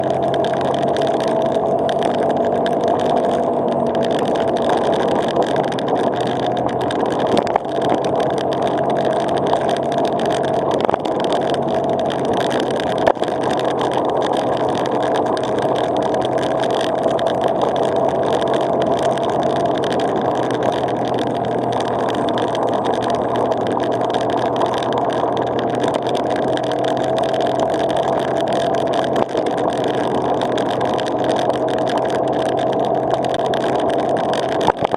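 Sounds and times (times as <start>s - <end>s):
vehicle driving on gravel: 0.0s - 34.9s.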